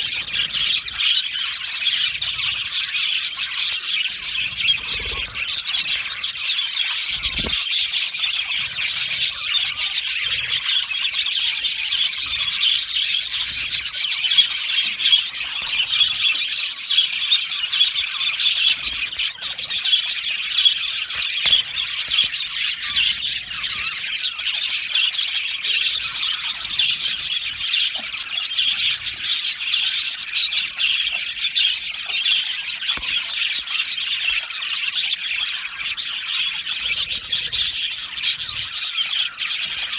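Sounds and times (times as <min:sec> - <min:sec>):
flock of budgies chirping: 0:00.0 - 0:39.9.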